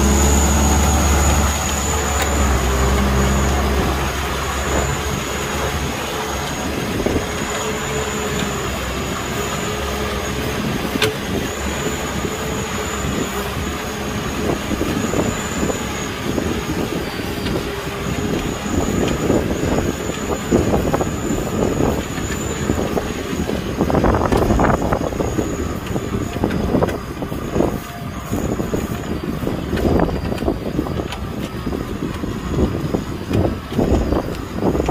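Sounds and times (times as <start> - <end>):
high squeal: 0.0 - 34.9
tractor diesel engine running: 0.0 - 34.9.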